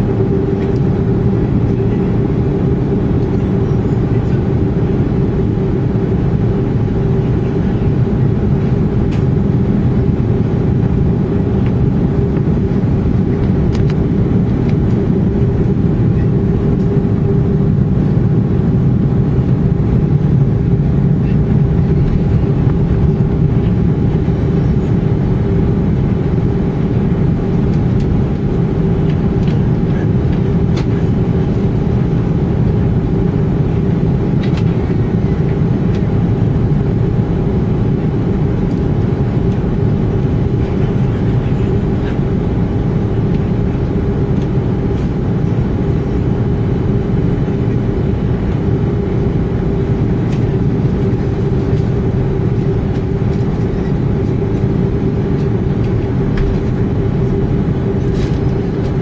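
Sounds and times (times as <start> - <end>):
aircraft engine hum and rumble: 0.0 - 59.0.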